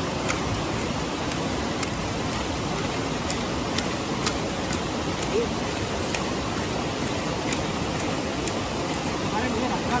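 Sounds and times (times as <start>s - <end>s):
river rushing: 0.0s - 10.0s
wood fire crackling: 0.0s - 10.0s.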